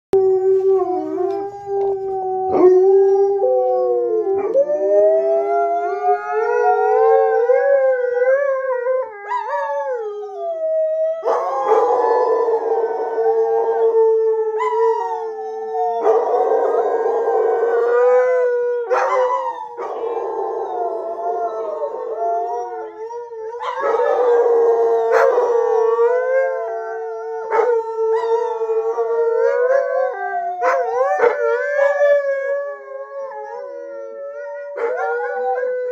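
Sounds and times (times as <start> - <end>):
dogs howling together: 0.1 - 35.9.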